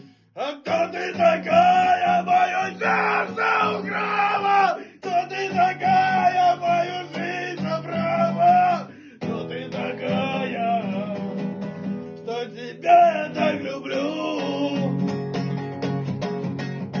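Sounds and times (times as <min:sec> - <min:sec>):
man singing: 0:00.0 - 0:15.2
acoustic guitar strumming: 0:00.1 - 0:17.0.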